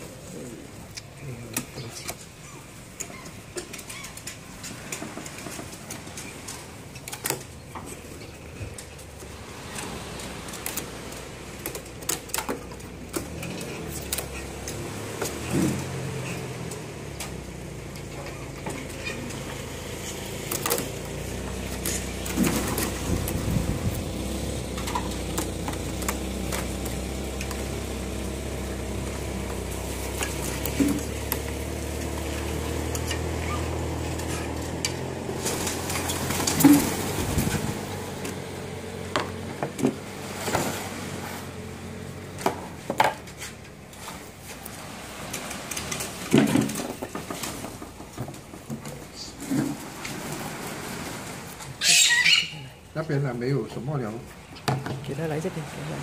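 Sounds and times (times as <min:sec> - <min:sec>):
steady mechanical hum: 0:00.0 - 0:51.8.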